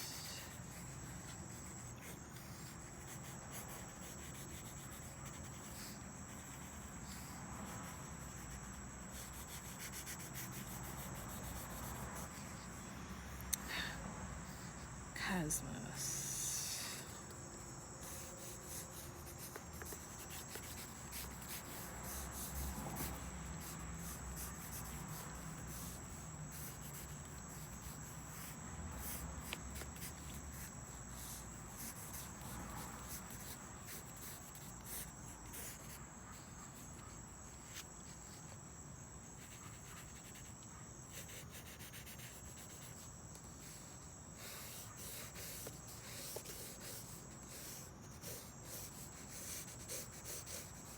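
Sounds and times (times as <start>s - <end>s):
pencil scratching on paper: 0.0s - 13.5s, 18.0s - 38.6s, 39.2s - 50.9s
crickets trilling: 0.0s - 50.9s.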